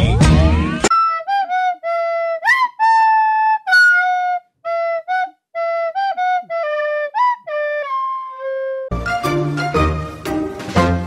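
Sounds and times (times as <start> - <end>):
solo flute melody: 0.9 - 10.4.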